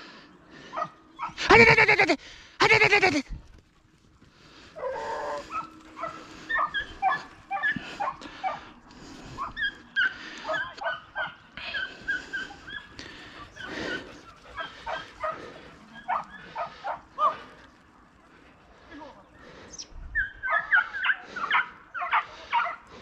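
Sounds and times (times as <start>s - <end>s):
hounds yelping and baying: 0.5s - 2.0s, 3.6s - 18.0s, 20.0s - 23.0s.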